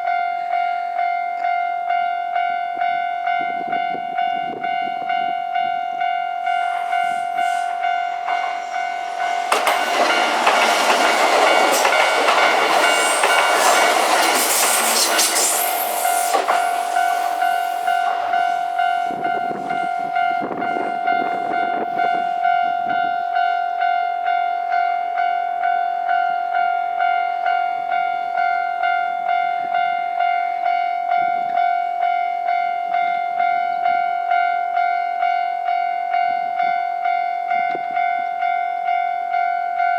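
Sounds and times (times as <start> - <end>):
level-crossing warning bell: 0.0 - 39.9
train passing over crossing: 0.0 - 39.9.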